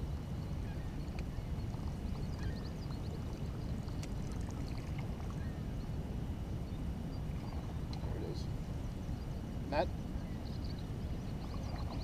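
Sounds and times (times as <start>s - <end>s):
water around boat: 0.0s - 12.0s
wind: 0.0s - 12.0s
faint bird chirps: 0.4s - 6.0s, 6.6s - 12.0s.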